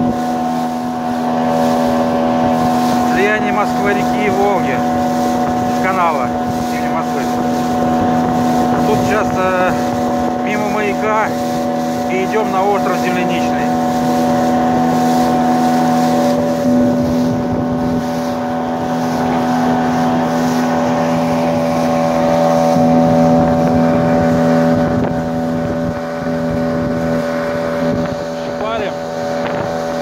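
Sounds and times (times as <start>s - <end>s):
outboard motor running: 0.0s - 30.0s
wind buffeting microphone: 0.0s - 30.0s.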